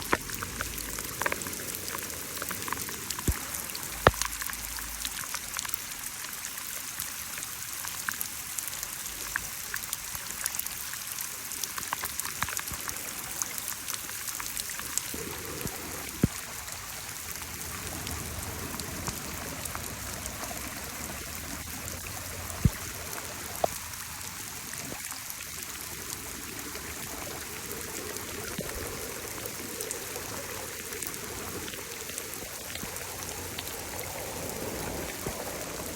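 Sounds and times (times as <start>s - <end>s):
louder raindrops: 0.0s - 35.9s
steady rain falling: 0.0s - 35.9s.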